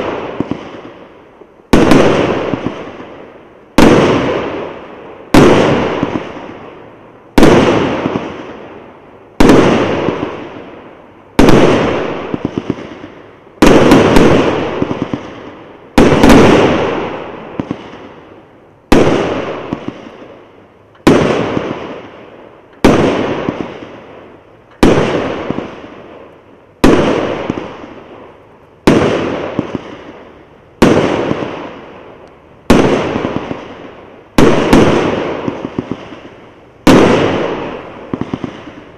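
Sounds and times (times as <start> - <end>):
firework bangs: 0.0 - 38.9
firework crackles: 0.0 - 38.9.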